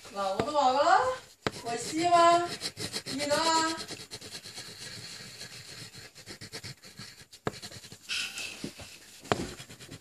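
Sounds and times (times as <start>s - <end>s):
crayon scratching on paper: 0.0s - 10.0s
crayon tapping on paper: 0.3s - 10.0s.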